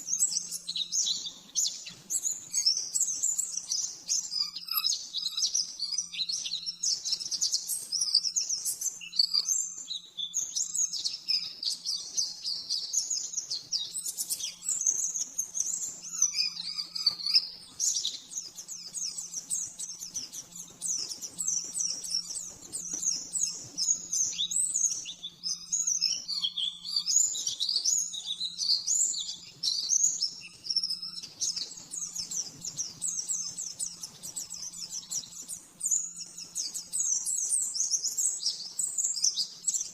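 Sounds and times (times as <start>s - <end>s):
bird singing high chirping trills: 0.0s - 39.9s.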